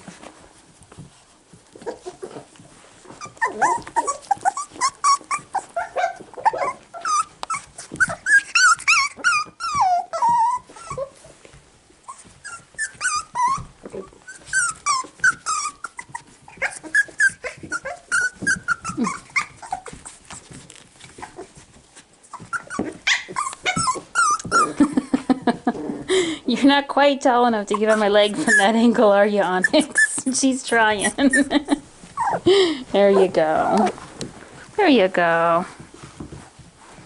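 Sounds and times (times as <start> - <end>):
puppies play-growling and yipping: 0.0 - 26.4, 27.6 - 34.8, 35.7 - 37.0.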